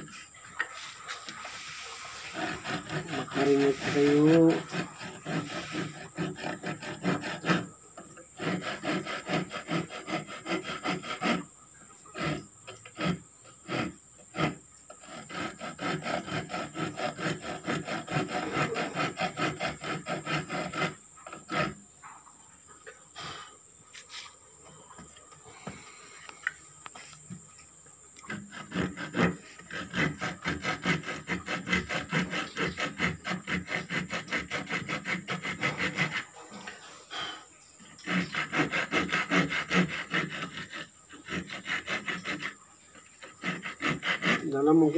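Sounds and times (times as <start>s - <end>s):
hand saw cutting wood: 0.0s - 21.9s, 28.2s - 37.2s, 37.8s - 44.9s.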